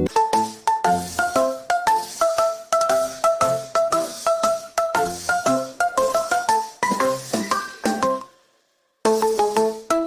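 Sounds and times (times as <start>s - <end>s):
light bouncy music: 0.0s - 10.0s.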